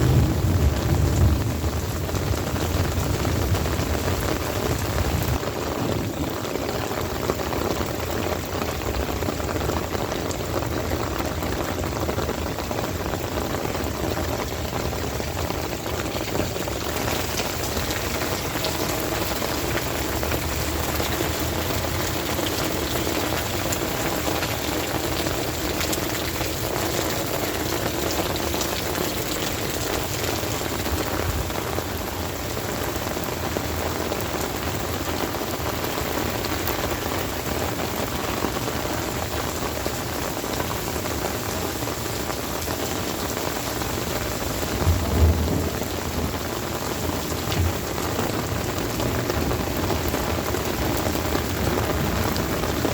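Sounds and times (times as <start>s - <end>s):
heavy rain falling: 0.0s - 52.9s
raindrops ticking: 0.0s - 52.9s.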